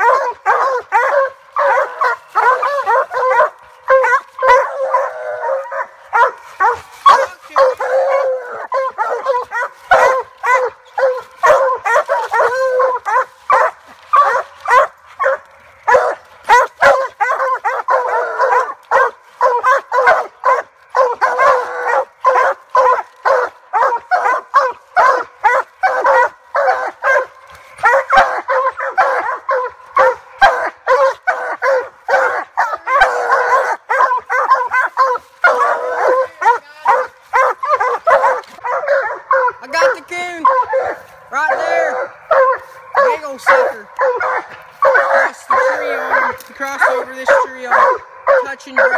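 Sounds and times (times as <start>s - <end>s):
dogs barking and bawling: 0.0s - 48.9s.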